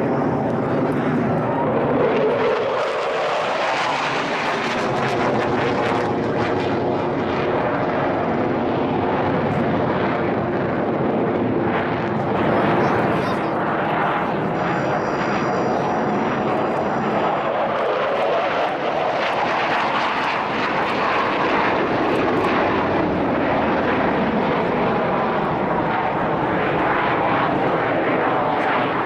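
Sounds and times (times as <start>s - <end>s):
jet engine roaring: 0.0s - 29.0s.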